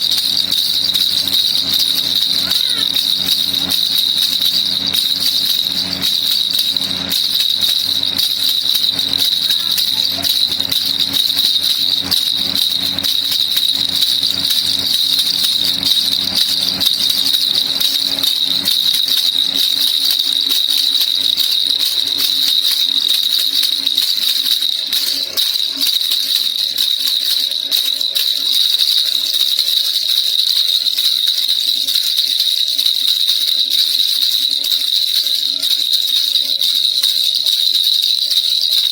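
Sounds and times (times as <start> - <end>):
baby rattle jingling: 0.0 - 38.9.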